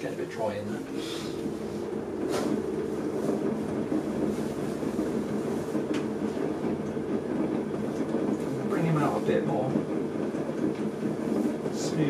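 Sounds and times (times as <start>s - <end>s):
potter's wheel running: 0.0s - 12.0s.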